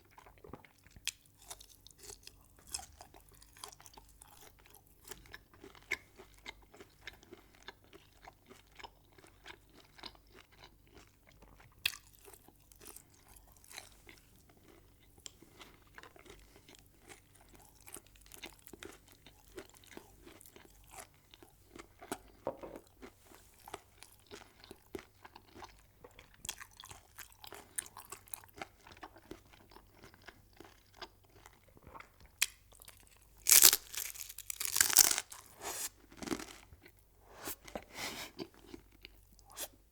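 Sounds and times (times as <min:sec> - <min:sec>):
chewing crunchy food: 0:00.0 - 0:37.0, 0:37.6 - 0:39.7.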